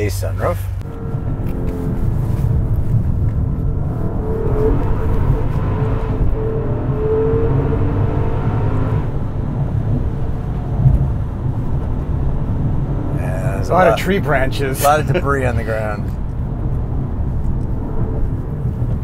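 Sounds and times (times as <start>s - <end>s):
car engine running: 0.0s - 19.0s
road and tyre noise: 0.0s - 19.0s.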